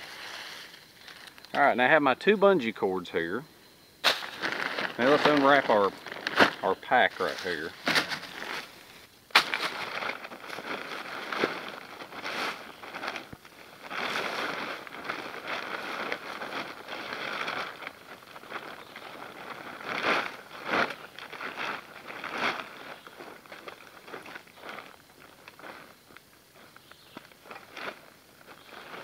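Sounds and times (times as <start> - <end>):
plastic tarp rustling: 0.0 - 1.5, 4.0 - 29.0.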